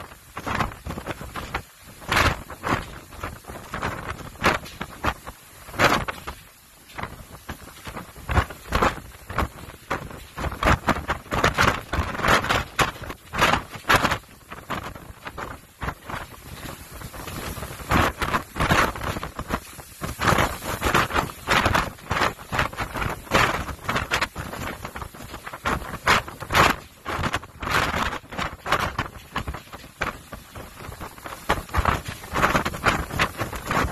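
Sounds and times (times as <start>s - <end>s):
rough sea breaking: 0.0s - 33.9s
wind buffeting microphone: 0.0s - 33.9s.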